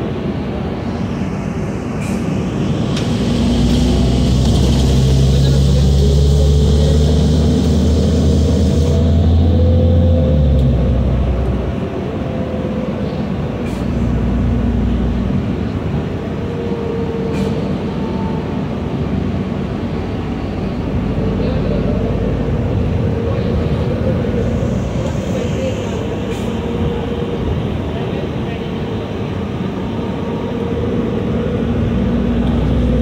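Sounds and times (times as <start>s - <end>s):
bus engine drone: 0.0s - 33.0s
road noise: 0.0s - 33.0s.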